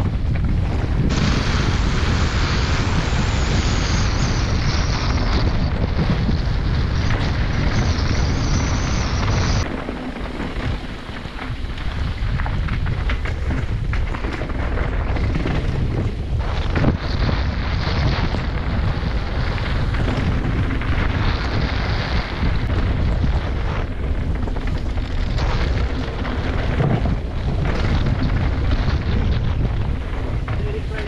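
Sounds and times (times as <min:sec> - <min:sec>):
tyre rumble on dirt trail: 0:00.0 - 0:31.0
wind buffeting microphone: 0:00.0 - 0:31.0
bike knocks and rattles: 0:05.1 - 0:31.0.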